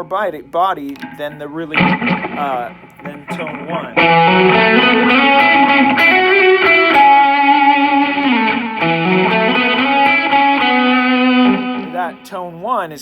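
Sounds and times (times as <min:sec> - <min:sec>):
distorted electric guitar lead: 0:00.9 - 0:12.3.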